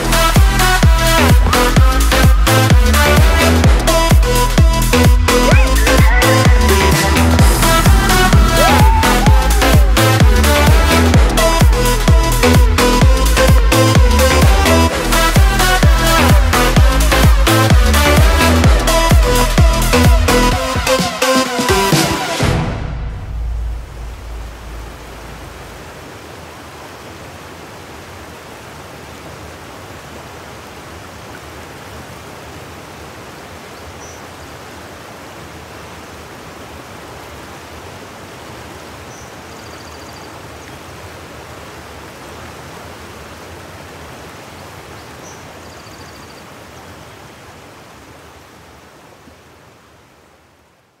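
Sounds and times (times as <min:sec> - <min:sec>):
creek rushing over rocks: 0:00.0 - 0:22.6, 0:23.8 - 0:50.9.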